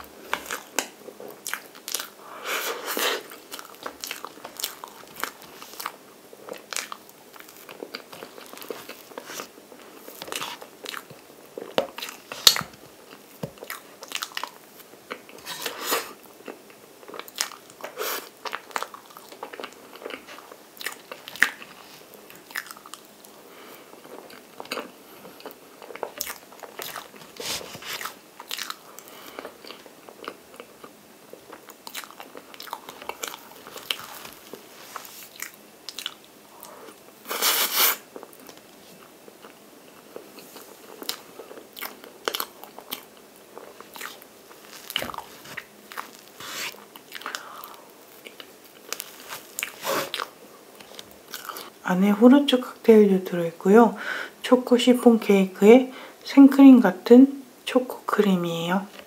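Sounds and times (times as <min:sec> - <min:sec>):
wet chewing: 0:00.3 - 0:23.1, 0:24.0 - 0:51.8.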